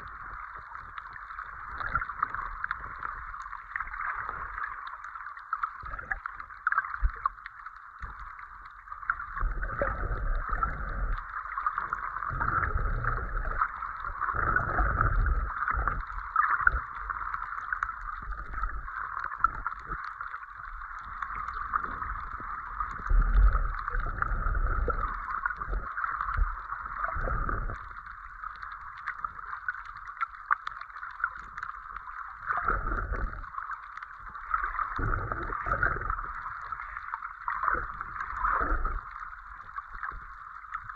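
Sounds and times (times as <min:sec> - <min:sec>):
muffled rushes of moving water: 0:00.0 - 0:40.9
steady underwater hiss: 0:00.0 - 0:40.9.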